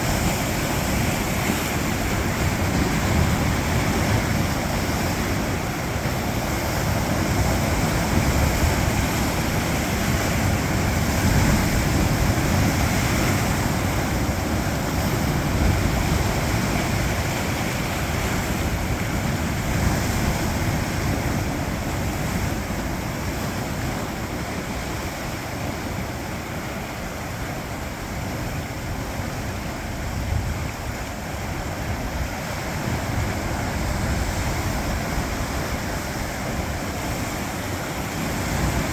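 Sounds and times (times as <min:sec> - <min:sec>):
sea waves breaking on rocks: 0:00.0 - 0:38.9.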